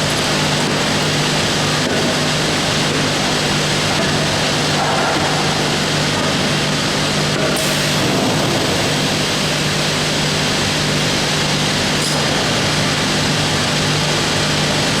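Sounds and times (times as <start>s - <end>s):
machine mechanical drone: 0.0s - 15.0s.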